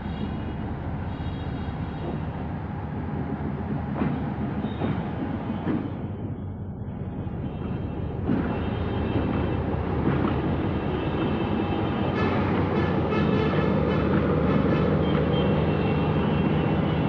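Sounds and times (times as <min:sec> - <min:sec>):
diesel locomotive engine droning: 0:00.0 - 0:17.0.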